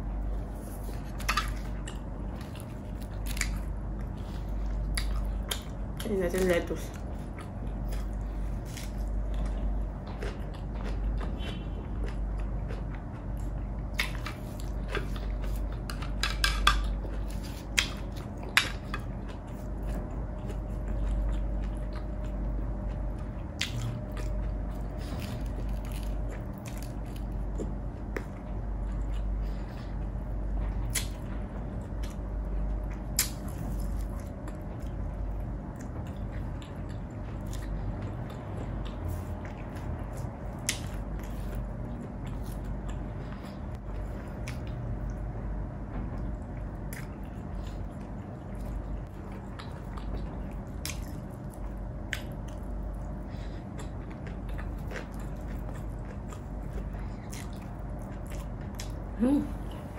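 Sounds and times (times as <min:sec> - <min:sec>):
low steady rumble: 0:00.0 - 0:59.9
chewing and biting food: 0:00.2 - 0:45.2, 0:46.1 - 0:59.9.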